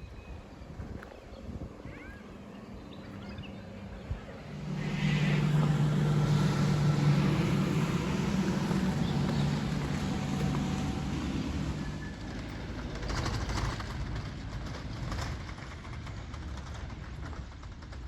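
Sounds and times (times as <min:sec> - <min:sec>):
vehicle engine humming: 0:00.4 - 0:16.8.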